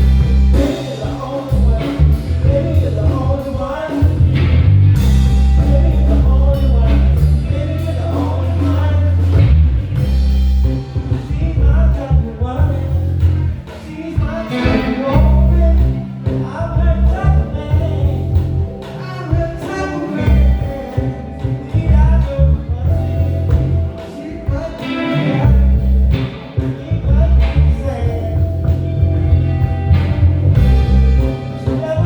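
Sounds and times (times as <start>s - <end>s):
bass line: 0.0s - 32.0s
bending lead melody: 0.0s - 32.0s
drum kit: 0.0s - 32.0s
keyboard chords: 0.0s - 32.0s.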